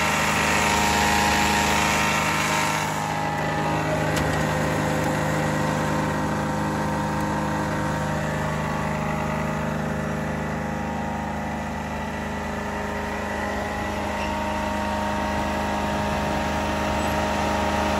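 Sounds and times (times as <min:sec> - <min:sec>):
diesel engine running steadily: 0:00.0 - 0:17.9.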